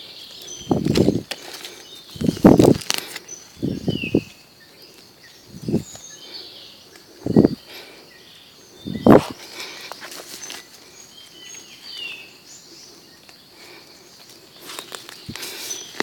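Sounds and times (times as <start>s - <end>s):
birds chirping faintly: 0.0s - 16.0s.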